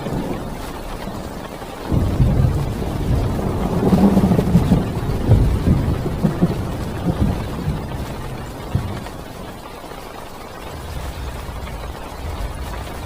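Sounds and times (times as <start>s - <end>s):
thunder rumbling: 0.0s - 9.7s, 10.6s - 13.0s
heavy rain drumming on car: 0.0s - 13.0s.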